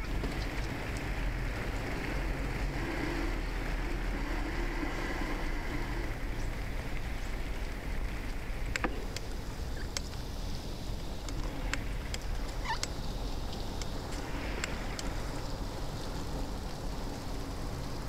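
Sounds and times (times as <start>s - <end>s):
bicycle tyre noise: 0.0s - 18.0s.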